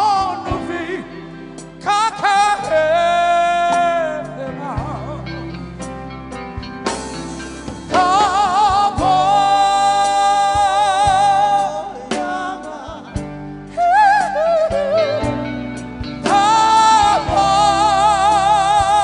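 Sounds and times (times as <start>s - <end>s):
lead vocal with vibrato: 0.0s - 6.2s, 7.5s - 19.0s
live band playing: 0.0s - 19.0s.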